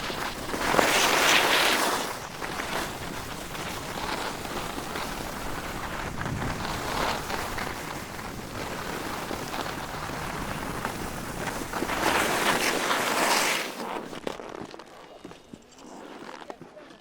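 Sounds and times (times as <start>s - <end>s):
skis sliding over snow: 0.0s - 17.0s.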